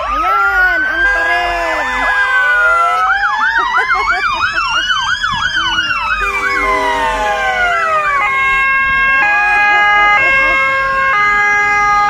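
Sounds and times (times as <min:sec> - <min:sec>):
siren wail: 0:00.0 - 0:12.0
siren yelp: 0:00.0 - 0:12.0.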